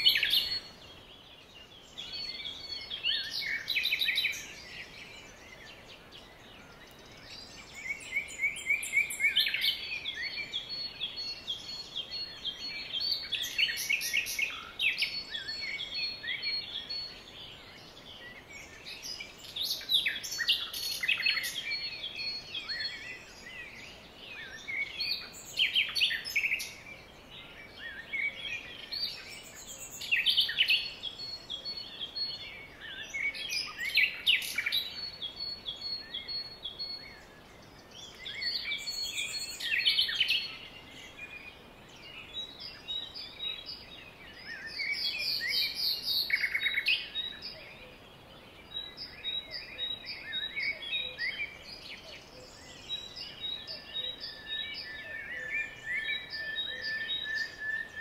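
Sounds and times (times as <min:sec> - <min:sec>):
wild birds singing and chirping: 0:00.0 - 0:58.0.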